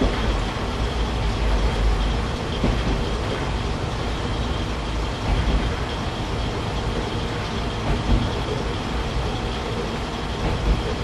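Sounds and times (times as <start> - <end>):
diesel railcar rumbling: 0.0 - 11.0.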